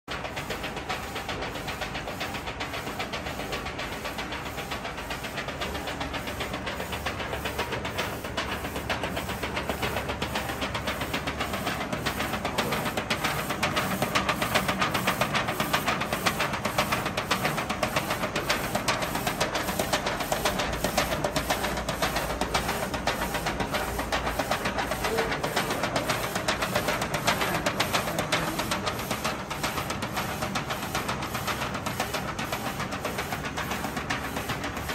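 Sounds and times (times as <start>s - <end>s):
fast mechanical rattle: 0.1s - 34.9s
printer running with steady hiss: 0.1s - 34.9s.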